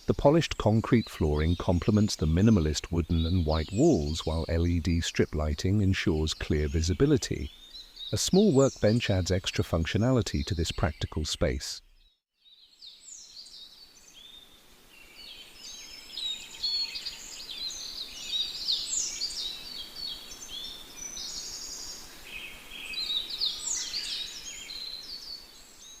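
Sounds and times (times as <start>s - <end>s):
faint steady hiss: 0.0s - 12.0s, 12.7s - 26.0s
songbirds chirping and trilling: 0.0s - 26.0s.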